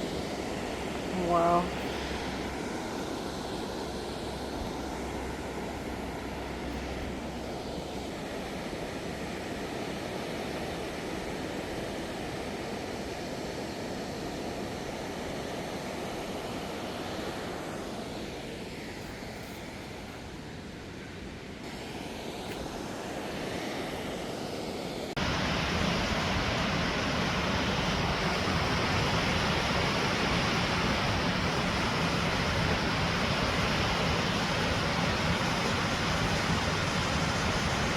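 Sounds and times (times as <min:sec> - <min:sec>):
waterfall and river roaring: 0:00.0 - 0:37.9.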